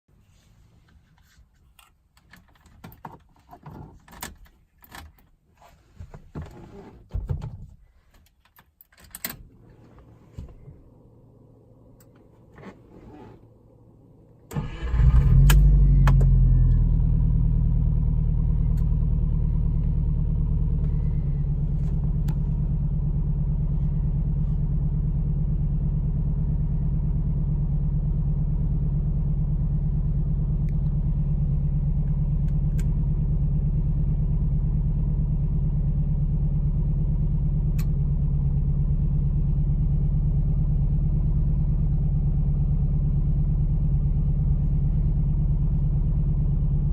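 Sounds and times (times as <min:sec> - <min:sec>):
car engine starting and idling: 0:09.1 - 0:46.9.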